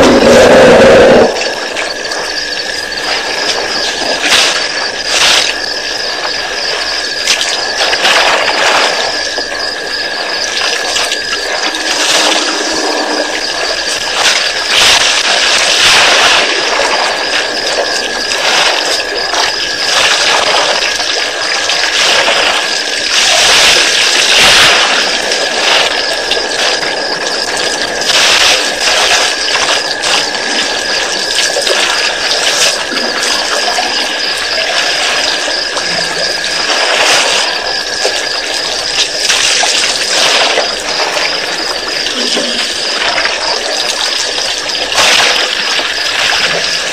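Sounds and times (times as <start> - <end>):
thin high whine: 0.0 - 46.9.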